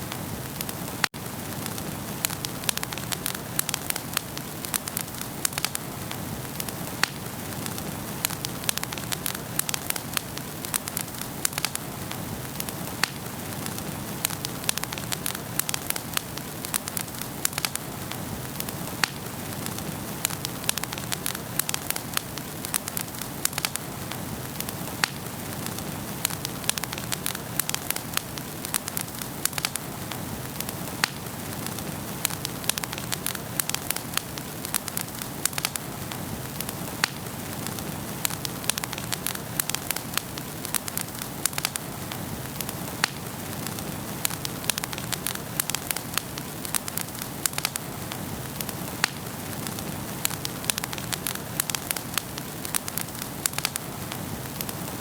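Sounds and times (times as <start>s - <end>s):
hiss of fire flames: 0.0s - 55.0s
logs crackling and popping: 0.0s - 55.0s.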